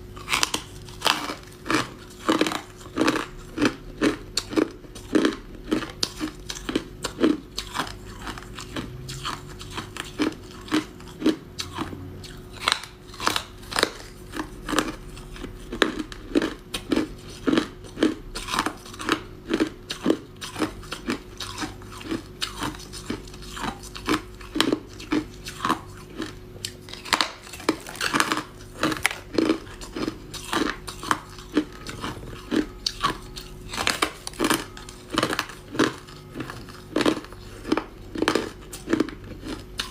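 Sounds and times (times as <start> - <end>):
person chewing ice crunching: 0.0 - 39.9.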